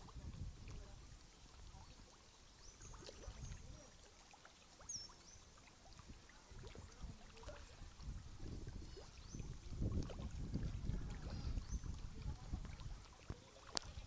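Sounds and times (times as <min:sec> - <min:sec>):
river water lapping and trickling: 0:00.0 - 0:14.0
small water splashes: 0:00.0 - 0:14.0.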